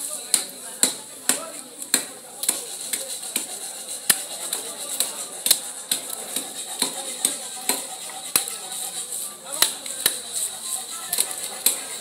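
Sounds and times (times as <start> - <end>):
knife scraping fish scales: 1.9 - 12.0.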